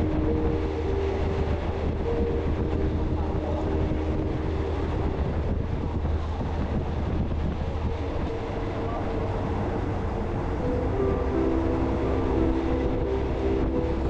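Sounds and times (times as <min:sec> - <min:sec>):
low hum: 0:00.0 - 0:14.0
train wheels rumbling on rails: 0:00.0 - 0:14.0.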